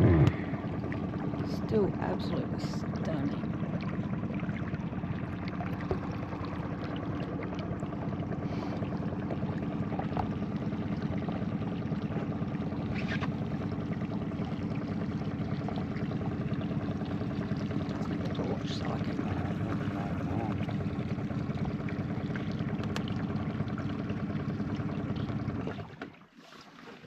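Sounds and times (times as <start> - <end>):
boat engine droning: 0.0 - 26.2
water washing along hull: 0.0 - 27.0.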